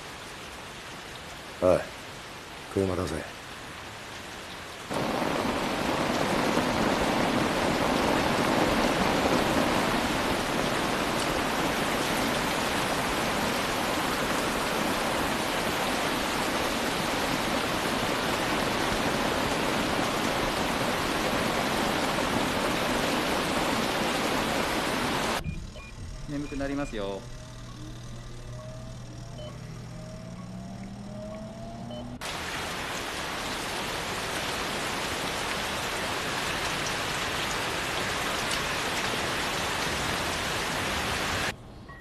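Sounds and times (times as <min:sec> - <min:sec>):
heavy rain on umbrellas: 0:00.0 - 0:25.4, 0:32.2 - 0:41.5.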